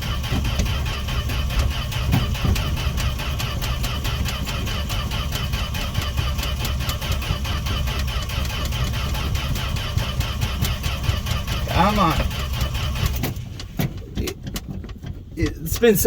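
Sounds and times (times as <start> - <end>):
engine starter cranking: 0.0 - 16.0.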